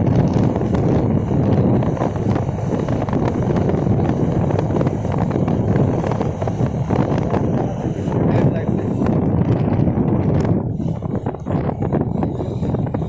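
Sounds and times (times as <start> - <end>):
engine and road noise: 0.0 - 13.0
wind buffeting microphone: 0.0 - 13.0.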